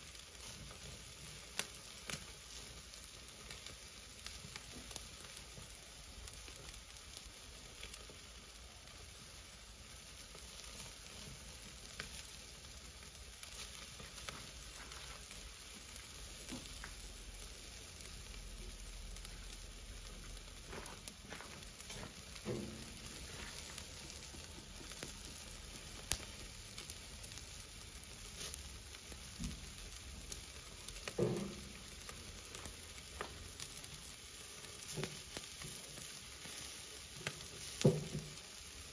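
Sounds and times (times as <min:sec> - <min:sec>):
chicken sizzling on a grill: 0:00.0 - 0:38.9.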